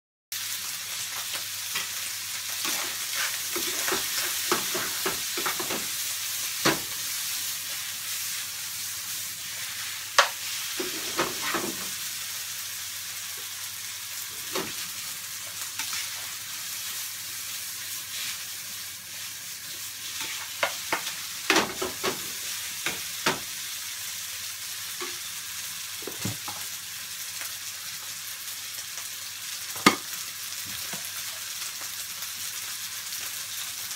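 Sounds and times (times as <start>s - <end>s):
rice sizzling in a frying pan: 0.3s - 33.9s.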